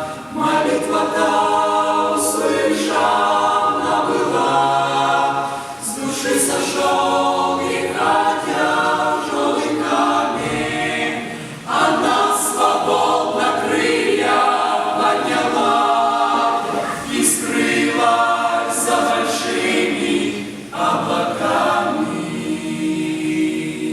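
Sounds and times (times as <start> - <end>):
choir singing a cappella hymn: 0.0 - 23.9.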